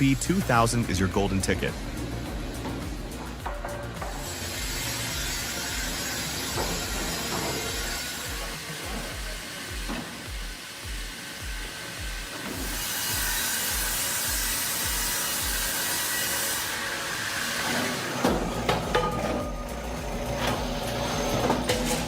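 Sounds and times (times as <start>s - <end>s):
background music with low beat: 0.0s - 16.7s, 18.1s - 22.0s
saw cutting through log: 0.0s - 22.0s.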